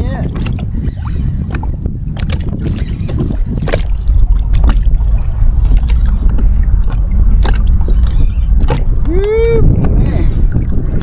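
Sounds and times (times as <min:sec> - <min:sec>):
water sloshing around kayak: 0:00.0 - 0:09.1
wind buffeting microphone: 0:00.0 - 0:11.0.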